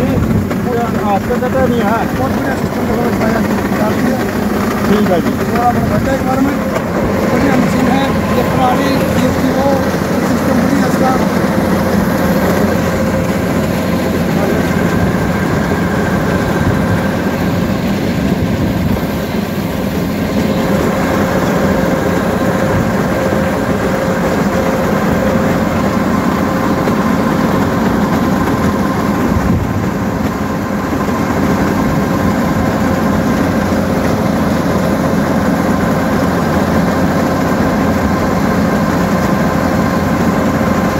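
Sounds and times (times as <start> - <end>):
combine harvester running: 0.0 - 40.9
grain auger unloading: 0.0 - 40.9
steady machine whine: 0.0 - 40.9.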